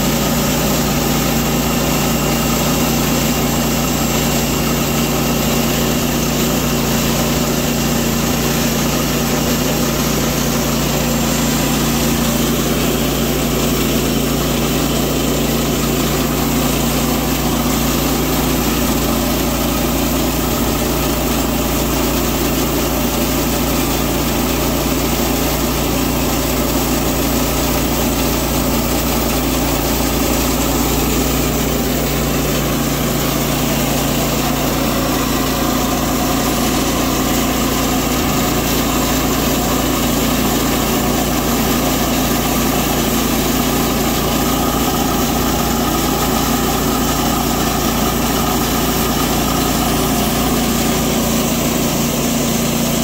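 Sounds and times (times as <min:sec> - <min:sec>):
band blade sawing log: 0:00.0 - 0:53.0
sawmill engine running: 0:00.0 - 0:53.0.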